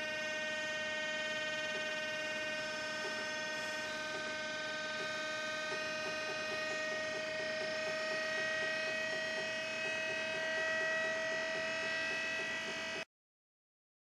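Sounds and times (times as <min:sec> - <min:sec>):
electronic buzz of held tones: 0:00.0 - 0:13.1.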